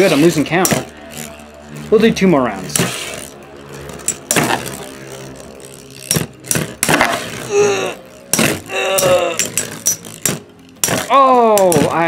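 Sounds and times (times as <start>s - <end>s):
metal tops spinning in plastic stadium: 0.0s - 12.0s
spinning tops clashing: 0.0s - 12.0s.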